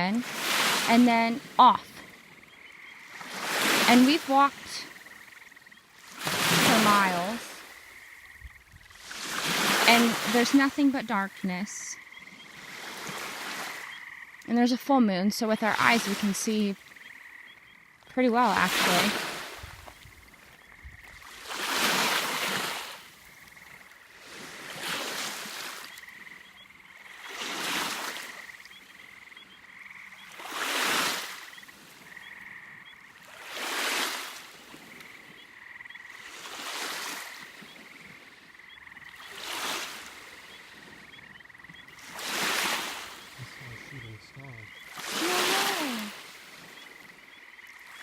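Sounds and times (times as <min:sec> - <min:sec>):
small waves breaking on shore: 0:00.0 - 0:14.4, 0:15.6 - 0:17.3, 0:18.4 - 0:29.2, 0:30.0 - 0:43.9, 0:44.7 - 0:48.0.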